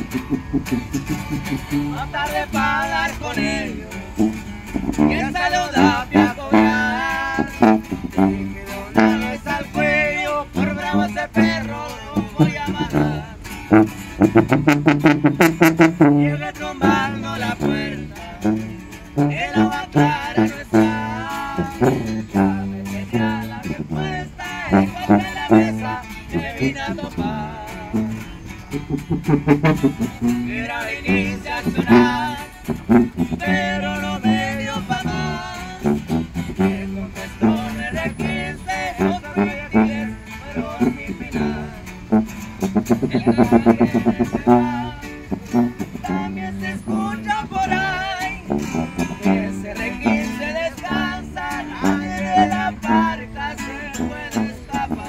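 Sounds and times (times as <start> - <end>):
sousaphone bass line: 0.0 - 55.0
strummed guitars: 0.0 - 55.0
man singing: 1.6 - 13.5, 15.3 - 42.1, 43.0 - 55.0.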